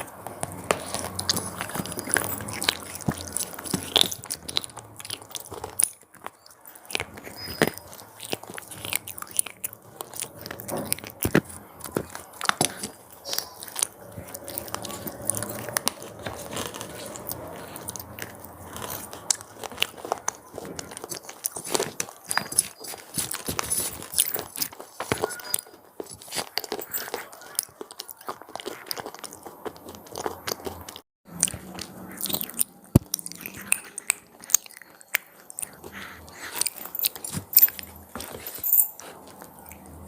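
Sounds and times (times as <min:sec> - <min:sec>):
crunchy snacks being chewed: 0:00.0 - 0:40.0.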